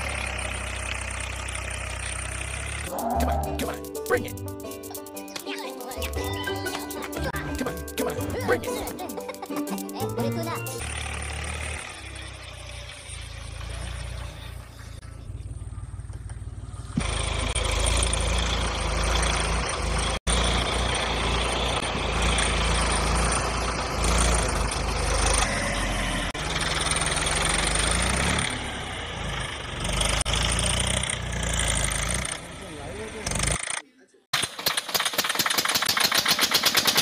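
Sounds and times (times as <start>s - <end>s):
vehicle engine rumbling: 0.0s - 5.1s, 6.0s - 33.8s.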